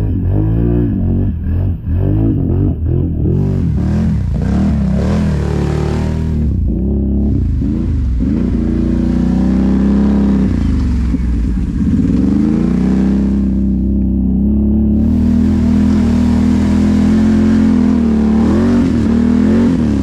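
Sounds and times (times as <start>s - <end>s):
atv engine revving: 0.0s - 20.0s.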